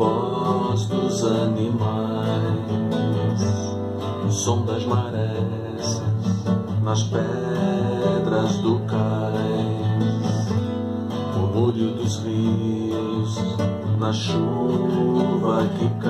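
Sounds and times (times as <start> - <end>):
classical guitar chords: 0.0 - 16.0.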